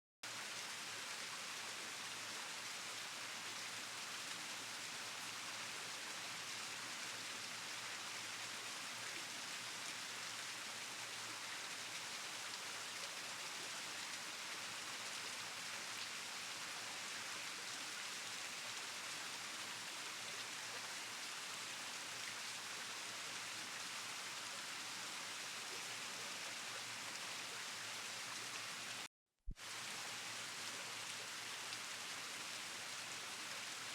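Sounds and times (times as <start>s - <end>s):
steady rain falling: 0.3s - 33.9s.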